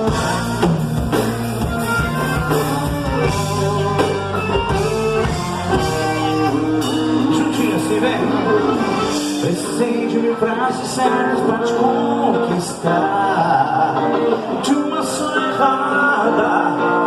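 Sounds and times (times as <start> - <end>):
drums: 0.0 - 17.0
live band playing instrumental: 0.0 - 17.0.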